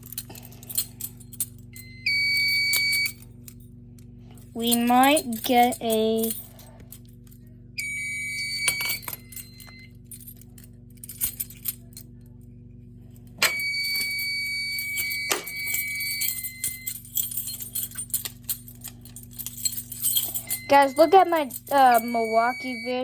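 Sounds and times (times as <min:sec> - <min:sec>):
small clicks and jingles: 0:00.0 - 0:07.5, 0:08.6 - 0:12.4, 0:13.8 - 0:22.7
low electrical hum: 0:00.0 - 0:23.0.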